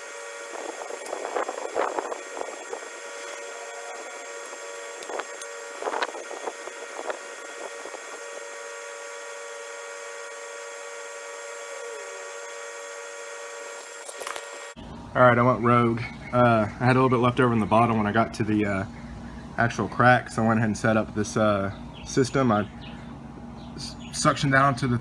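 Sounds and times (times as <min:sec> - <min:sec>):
mechanical hum with whining tones: 0:00.0 - 0:25.0.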